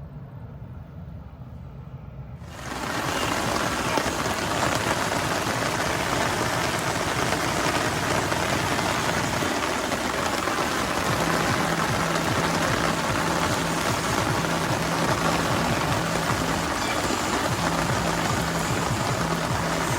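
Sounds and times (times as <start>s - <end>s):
heavy rain falling: 2.4s - 19.9s.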